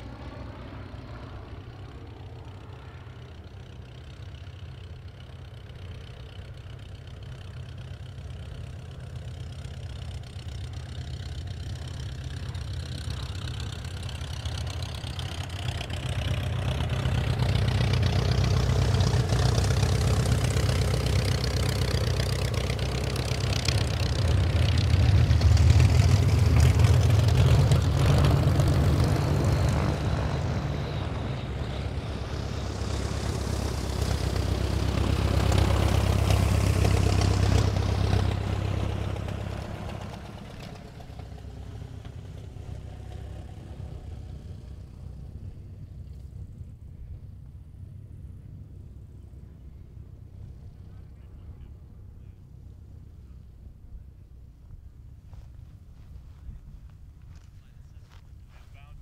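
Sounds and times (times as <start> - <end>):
biplane engine drone: 0.0 - 59.0.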